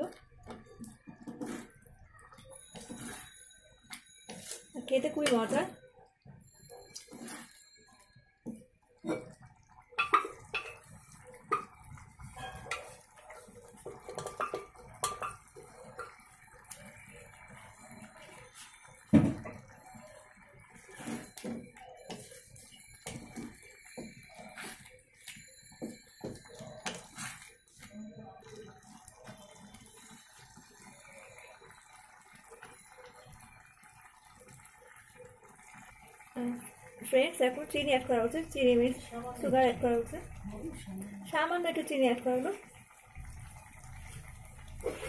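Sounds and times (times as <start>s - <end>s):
thick stew bubbling and popping: 0.0s - 45.0s.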